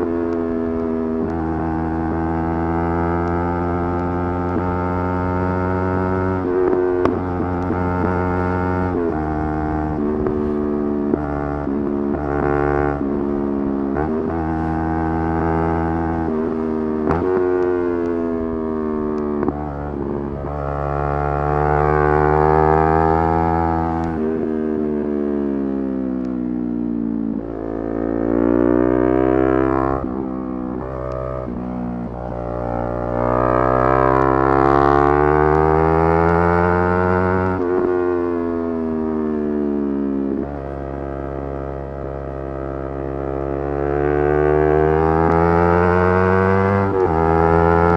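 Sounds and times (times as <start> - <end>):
motorcycle engine at high revs: 0.0 - 47.9.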